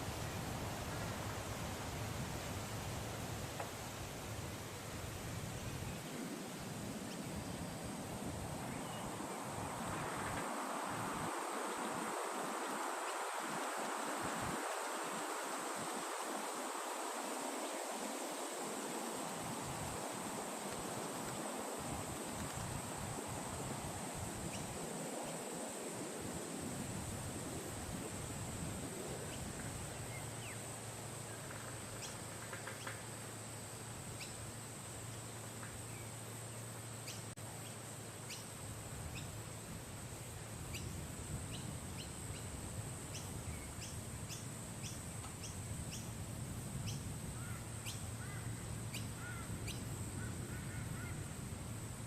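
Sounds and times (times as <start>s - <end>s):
high-pitched hiss: 0.0s - 52.0s.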